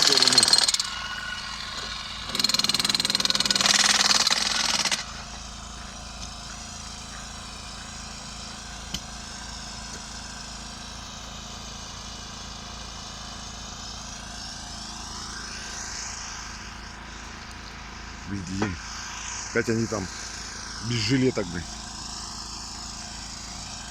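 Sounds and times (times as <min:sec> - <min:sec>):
engine running with rapid pulsing: 0:00.0 - 0:23.9.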